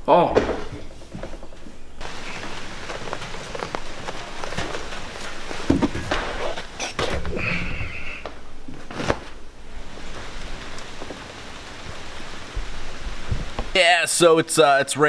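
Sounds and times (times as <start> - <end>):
rain falling in large drops: 2.0 - 15.0.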